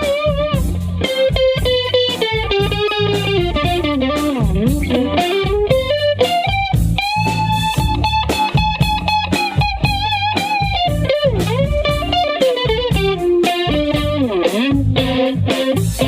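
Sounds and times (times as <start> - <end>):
bass and drum backing: 0.0 - 16.0
electric guitar lead line: 0.0 - 16.0.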